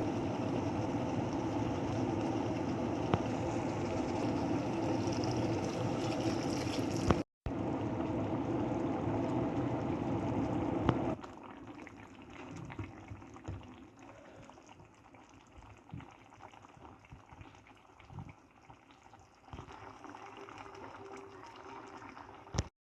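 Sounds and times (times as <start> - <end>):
curry bubbling in a pan: 0.0 - 22.7.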